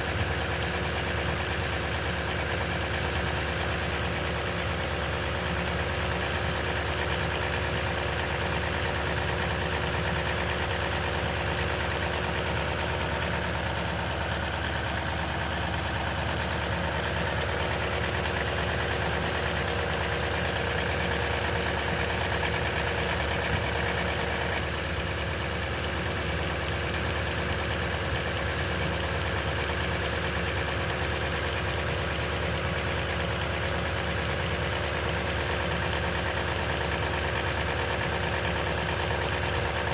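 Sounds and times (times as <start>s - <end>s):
engine idling with rattle: 0.0s - 39.9s.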